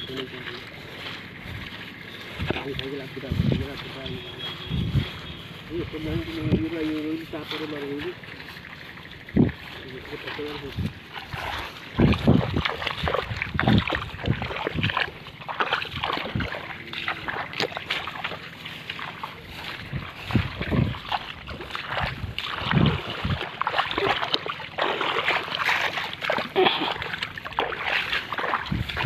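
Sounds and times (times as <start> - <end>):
footsteps squelching through mud: 0.0 - 29.0
wind buffeting microphone: 0.0 - 29.0.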